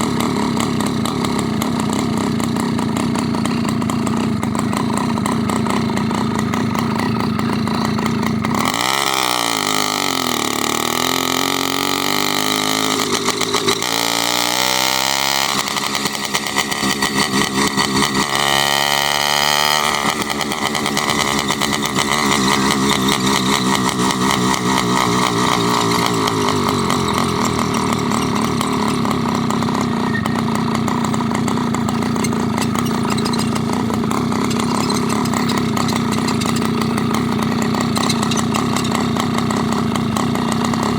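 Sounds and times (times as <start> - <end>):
small motorized bicycle engine: 0.0 - 40.9.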